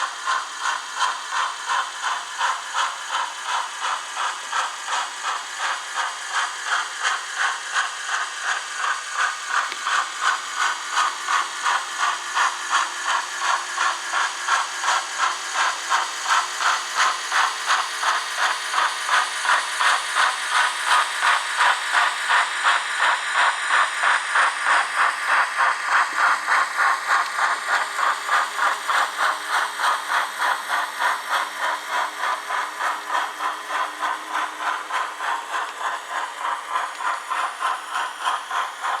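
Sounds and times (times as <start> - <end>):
synthesised steam chuffs: 0.0 - 39.0.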